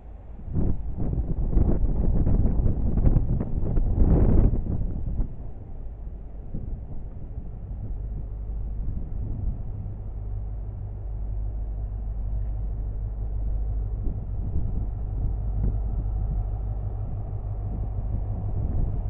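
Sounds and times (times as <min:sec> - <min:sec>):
diesel train engine rumbling: 0:00.0 - 0:19.0.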